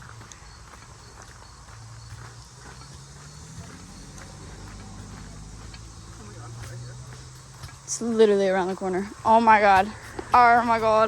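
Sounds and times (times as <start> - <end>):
footsteps on trail: 0.0 - 11.0.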